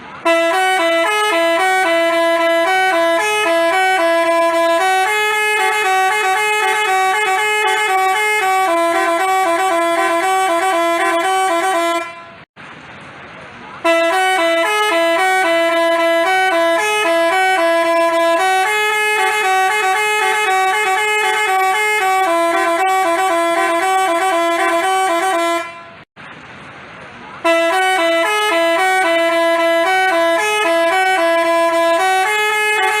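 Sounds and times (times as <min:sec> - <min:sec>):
multi-tone bus horn melody: 0:00.0 - 0:12.5, 0:13.8 - 0:26.1, 0:27.4 - 0:33.0.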